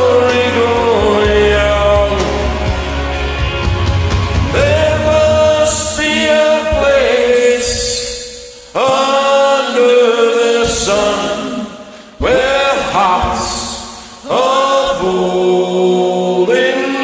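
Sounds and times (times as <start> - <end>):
man singing into microphone: 0.0 - 3.2, 4.4 - 17.0
karaoke backing track: 0.0 - 17.0.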